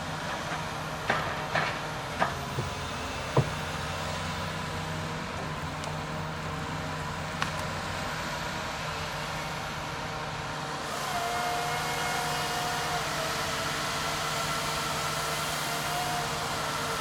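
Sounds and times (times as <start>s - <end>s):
log loader diesel engine and hydraulics: 0.0s - 17.0s.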